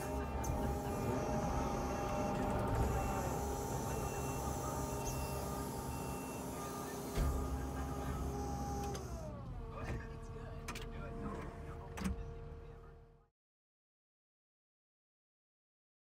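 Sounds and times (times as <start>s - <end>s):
diesel engine running: 0.0s - 13.2s.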